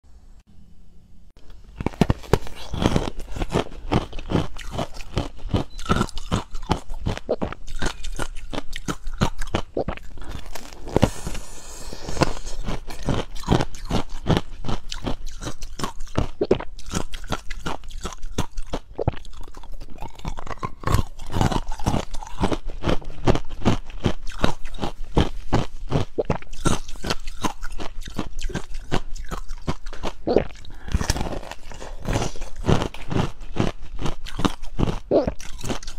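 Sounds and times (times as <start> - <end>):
crunching and chewing ice: 1.4 - 35.9.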